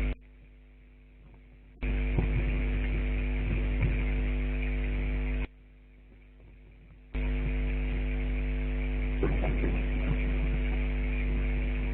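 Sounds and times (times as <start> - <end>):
buzzy electrical mains hum: 0.0 - 11.9.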